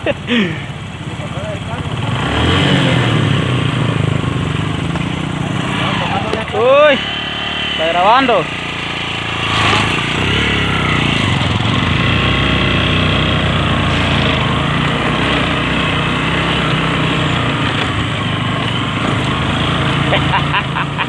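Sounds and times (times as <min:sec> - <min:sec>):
motorcycle engine under load: 0:00.0 - 0:21.0.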